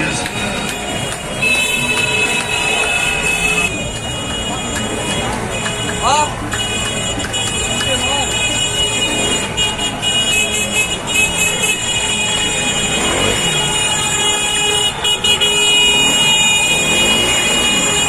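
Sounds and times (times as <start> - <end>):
car horns honking: 0.0 - 18.0
slow traffic noise: 0.0 - 18.0
people shouting: 0.4 - 15.2.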